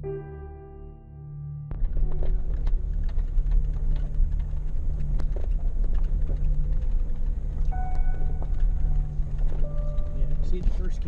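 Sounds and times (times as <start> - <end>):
engine drone: 1.7 - 11.0
rattles and knocks: 1.7 - 11.0.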